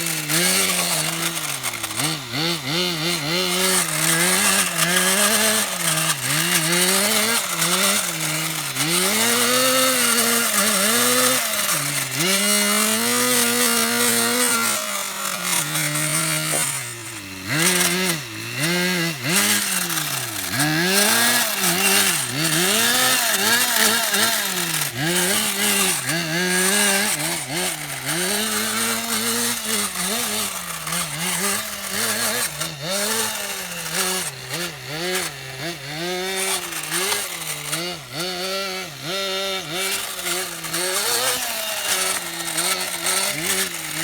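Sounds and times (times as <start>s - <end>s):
small two-stroke engine revving: 0.0s - 44.0s.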